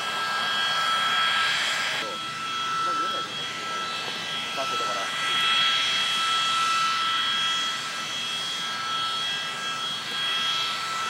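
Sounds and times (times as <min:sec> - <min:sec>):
jet engine roar with whine: 0:00.0 - 0:11.0.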